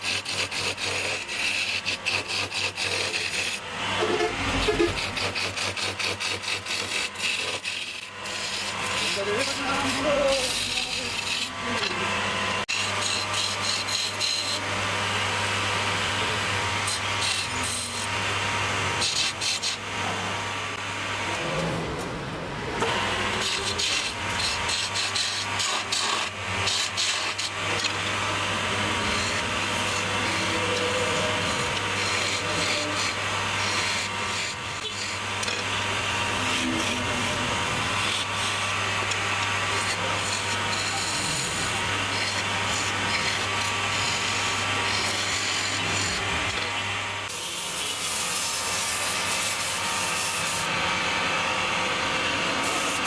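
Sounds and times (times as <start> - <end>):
chisel scraping spinning wood: 0.0 - 51.0
wood lathe motor hum: 0.0 - 53.0.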